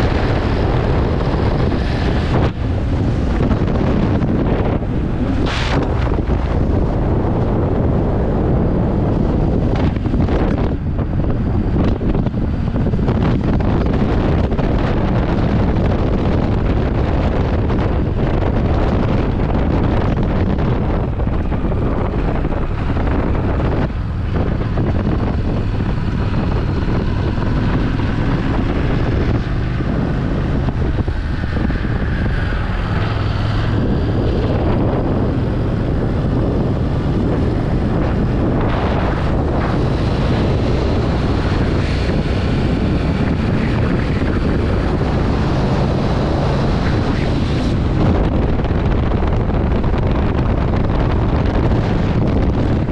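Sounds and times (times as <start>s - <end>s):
motorcycle engine: 0.0s - 52.9s
wind rush on microphone: 0.0s - 52.9s.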